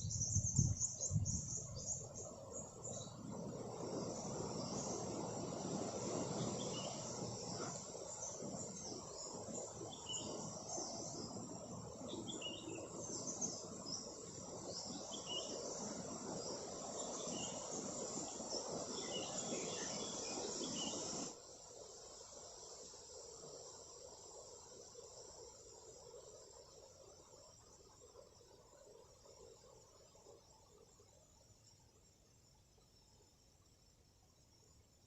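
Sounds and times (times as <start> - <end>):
crickets and insects chirping: 0.0 - 35.0
steady high-pitched hum: 0.0 - 35.0.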